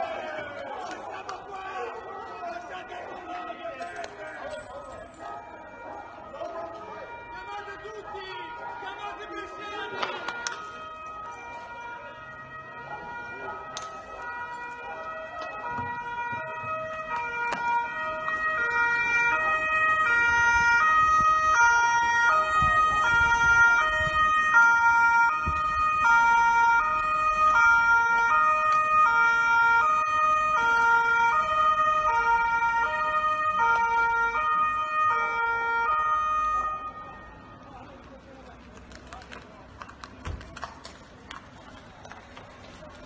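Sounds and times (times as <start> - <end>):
two-tone police sirens: 0.0 - 38.2.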